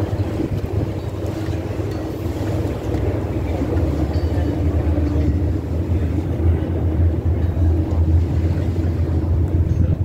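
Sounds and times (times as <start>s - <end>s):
boat engine drone: 0.0s - 10.0s
wind and water rushing: 0.0s - 10.0s.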